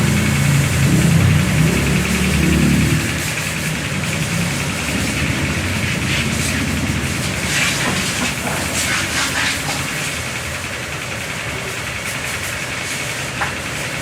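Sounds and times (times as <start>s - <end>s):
motor running with hiss: 0.0s - 14.0s.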